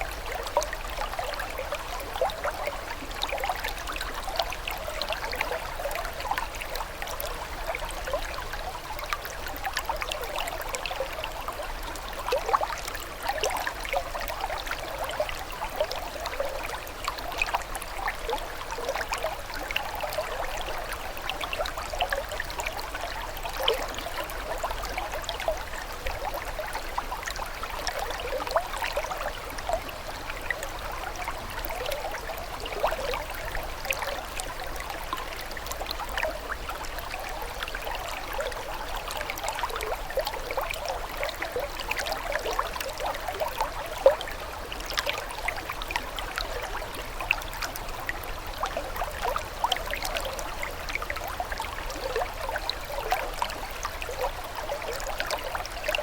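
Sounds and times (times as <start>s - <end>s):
water trickling and burbling: 0.0s - 56.0s.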